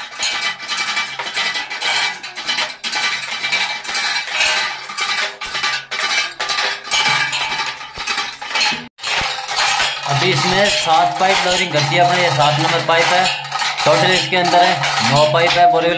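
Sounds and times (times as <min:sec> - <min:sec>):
hoist chain rattling: 0:00.0 - 0:15.9.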